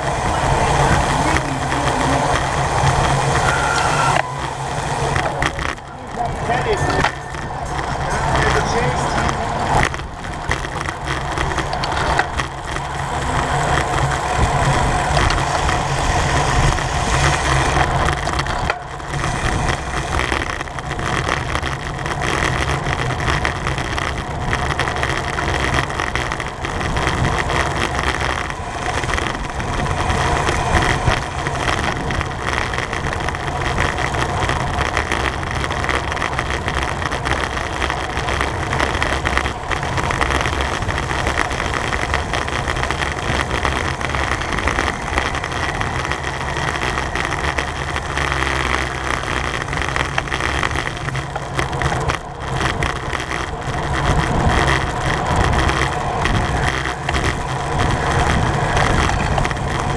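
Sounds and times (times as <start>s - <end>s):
bicycle tyre and drivetrain noise: 0.0s - 59.9s
wind on microphone: 0.0s - 59.9s.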